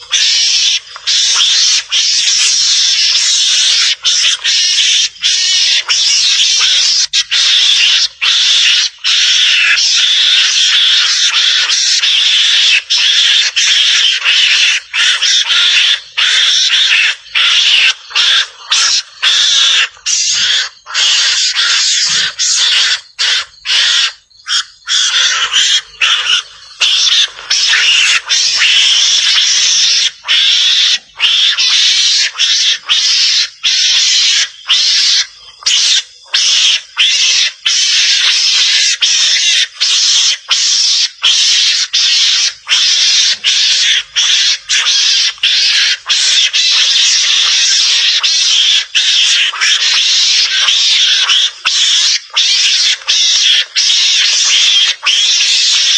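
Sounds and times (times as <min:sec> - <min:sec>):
mongoose harsh hissy chattering: 0:00.0 - 0:55.9.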